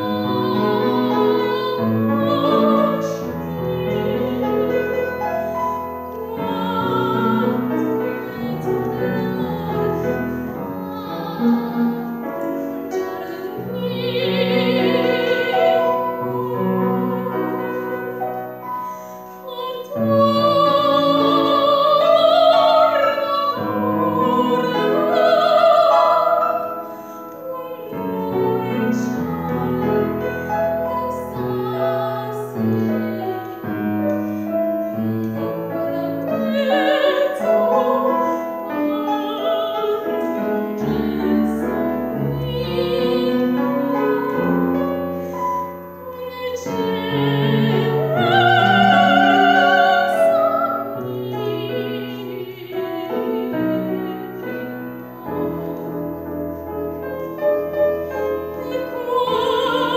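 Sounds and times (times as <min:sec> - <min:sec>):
woman singing operatically: 0:00.0 - 0:05.5, 0:06.2 - 0:18.2, 0:19.4 - 0:26.8, 0:27.4 - 0:34.0, 0:35.5 - 0:45.3, 0:46.0 - 0:55.6, 0:58.3 - 0:59.9
piano accompaniment: 0:00.0 - 0:59.9.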